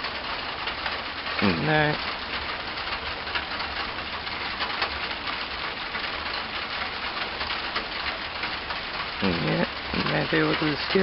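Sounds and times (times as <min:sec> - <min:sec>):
freezing rain pattering: 0:00.0 - 0:11.0.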